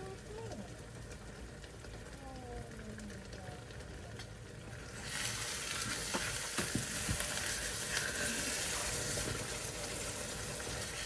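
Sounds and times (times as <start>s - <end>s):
mixture sizzling in oil: 0.0s - 11.0s.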